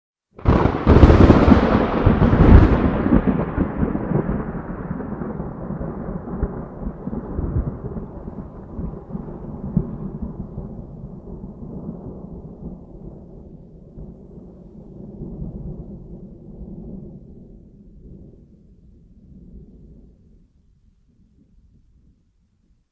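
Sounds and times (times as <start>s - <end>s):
thunderclap with rolling rumble: 0.4s - 22.4s.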